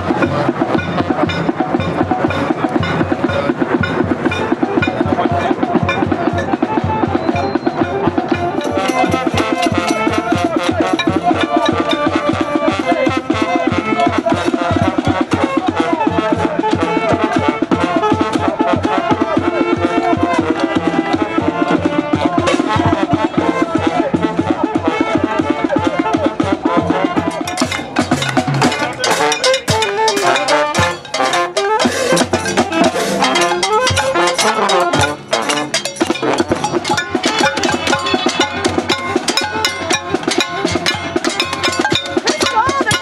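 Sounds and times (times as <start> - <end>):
hand drums and percussion beating: 0.0 - 43.0
voices shouting or chanting: 0.0 - 43.0.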